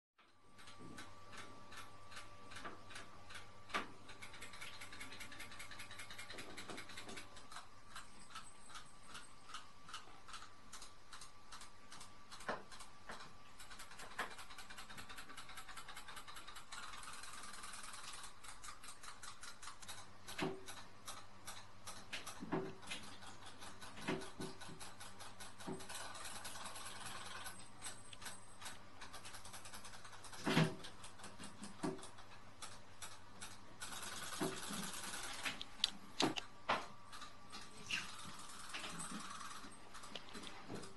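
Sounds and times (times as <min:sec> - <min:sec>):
fast mechanical ticking: 0:00.5 - 0:36.4, 0:37.1 - 0:40.9.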